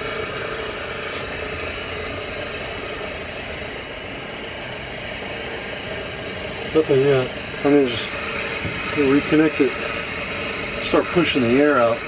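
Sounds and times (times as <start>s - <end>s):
water pump motor running: 0.0s - 12.0s.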